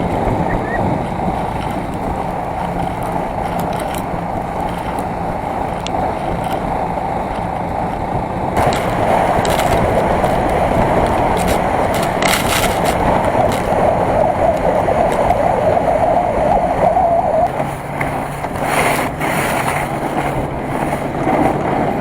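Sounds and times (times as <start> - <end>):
rumbling and scraping over snow: 0.0 - 22.0.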